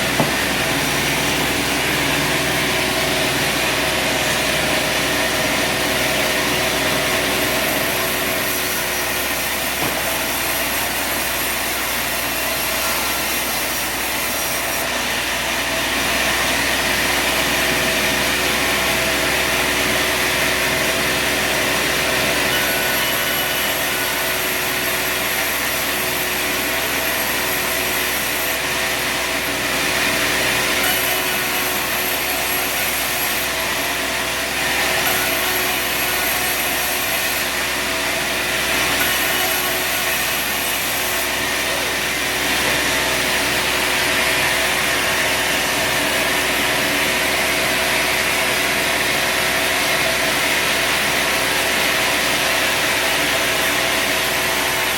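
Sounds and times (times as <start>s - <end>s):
saw blade cutting log: 0.0s - 54.9s
sawmill engine running: 0.0s - 54.9s.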